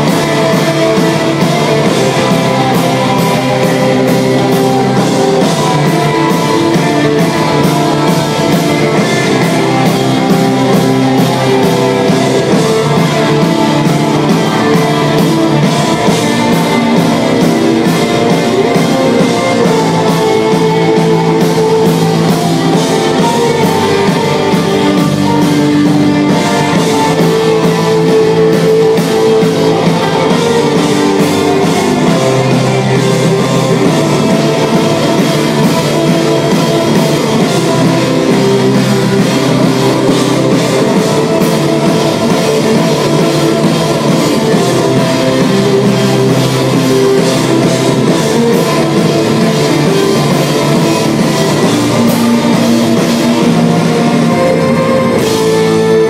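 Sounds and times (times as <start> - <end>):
heavy rock band playing live: 0.0 - 56.0.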